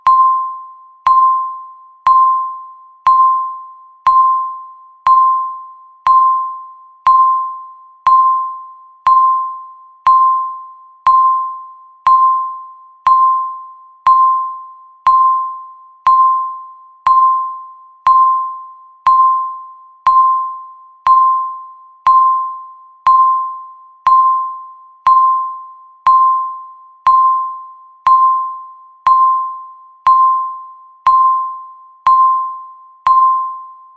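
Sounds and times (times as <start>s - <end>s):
bell-like timer beeps: 0.0s - 33.9s.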